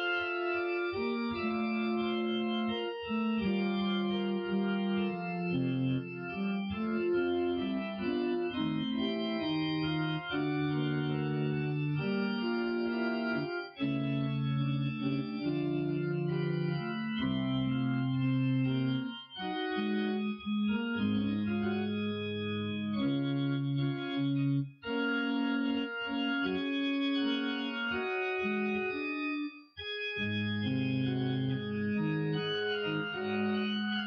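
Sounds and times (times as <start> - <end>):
organ-voiced keyboard chords: 0.0 - 34.0.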